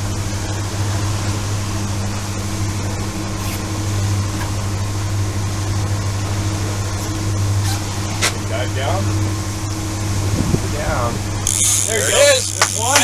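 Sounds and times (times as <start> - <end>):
boat engine droning: 0.0 - 13.0
wind and water hiss: 0.0 - 13.0.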